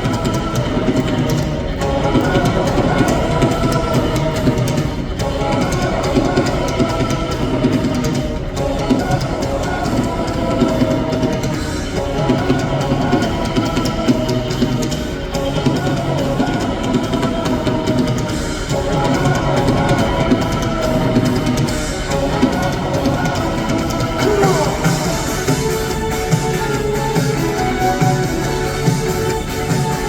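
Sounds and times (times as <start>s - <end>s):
live rock band: 0.0s - 30.0s.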